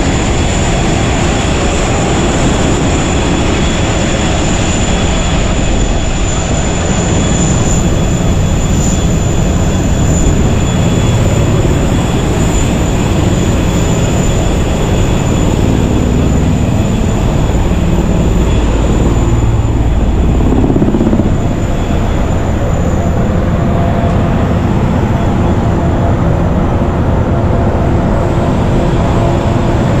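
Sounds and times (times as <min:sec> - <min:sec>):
aircraft engine rumble: 0:00.0 - 0:30.0
high whine: 0:00.0 - 0:30.0.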